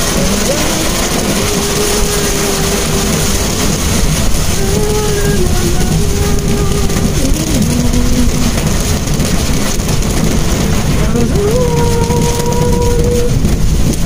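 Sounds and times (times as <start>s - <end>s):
car engine and tyres rumbling: 0.0s - 14.0s
rain and spray hissing: 0.0s - 14.0s.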